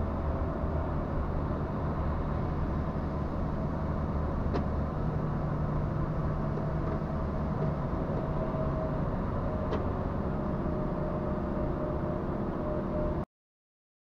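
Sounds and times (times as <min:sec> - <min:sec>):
truck engine and road noise: 0:00.0 - 0:13.3.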